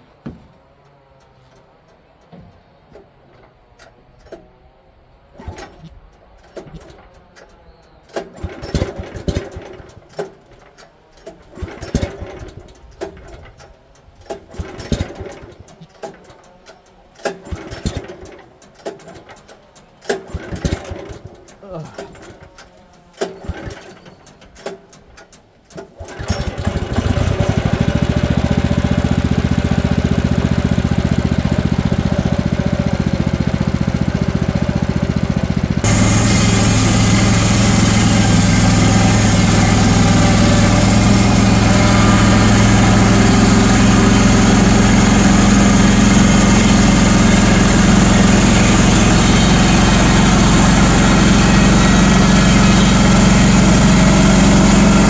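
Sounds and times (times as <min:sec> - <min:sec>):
sawmill engine running: 0:02.9 - 0:55.0.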